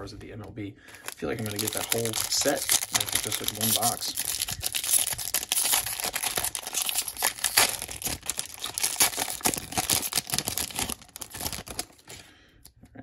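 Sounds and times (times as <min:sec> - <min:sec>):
foil wrapper crinkling and tearing: 0:00.9 - 0:12.3.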